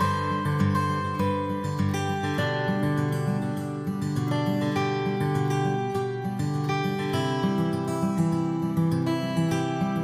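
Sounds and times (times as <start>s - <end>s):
acoustic guitar tune: 0.0s - 10.0s.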